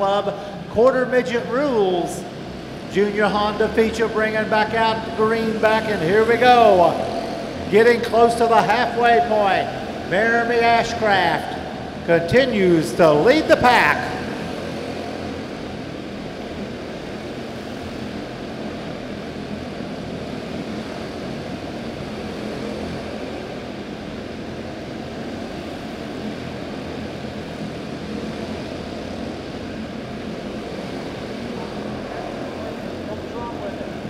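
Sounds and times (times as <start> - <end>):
small race car engines droning: 0.0 - 34.0.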